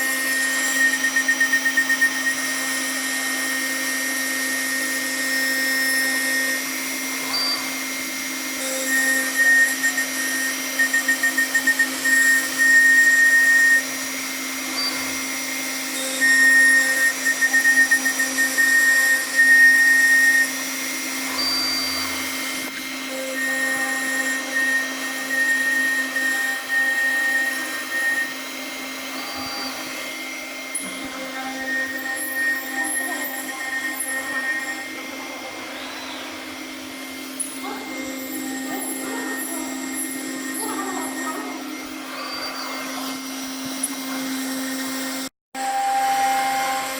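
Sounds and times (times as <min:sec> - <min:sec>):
cnc router humming and whining: 0:00.0 - 0:46.9.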